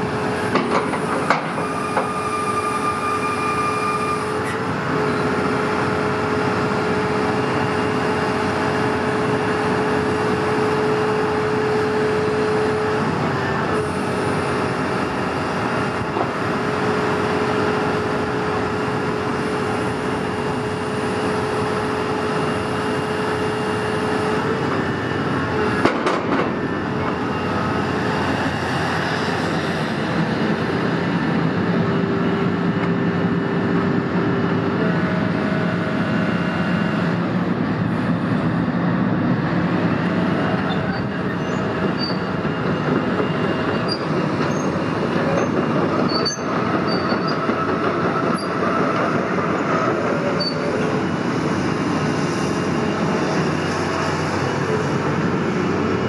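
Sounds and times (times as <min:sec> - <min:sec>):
diesel engine running: 0:00.0 - 0:56.0
hydraulics whining: 0:00.0 - 0:56.0.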